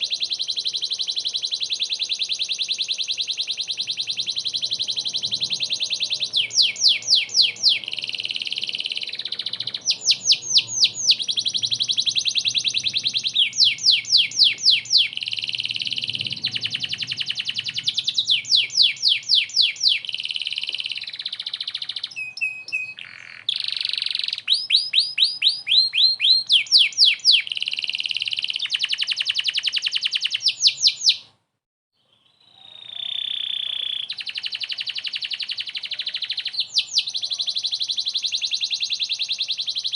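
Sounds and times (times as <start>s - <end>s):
canary singing trills: 0.0s - 31.3s, 32.0s - 39.9s.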